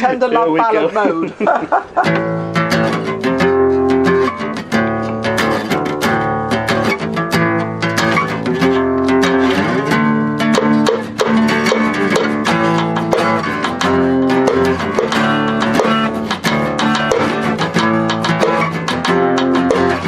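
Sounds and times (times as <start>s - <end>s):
acoustic guitar strumming: 1.9s - 20.0s.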